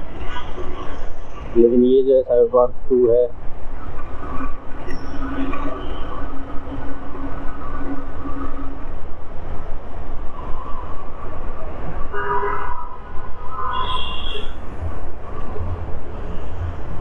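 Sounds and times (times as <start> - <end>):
traffic noise: 0.0 - 17.0
wind rushing over microphone: 2.6 - 17.0.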